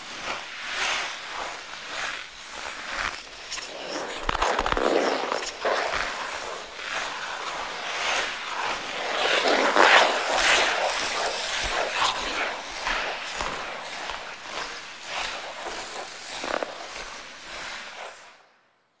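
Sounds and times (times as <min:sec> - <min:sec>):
ice skates scraping on ice: 0:00.0 - 0:18.5.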